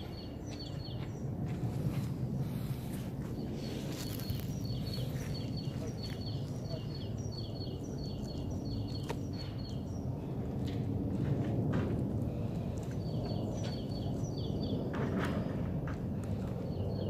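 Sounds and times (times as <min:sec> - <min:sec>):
songbird singing: 0:00.0 - 0:01.6, 0:02.4 - 0:11.3, 0:12.3 - 0:17.0
low outdoor rumble: 0:00.0 - 0:17.0.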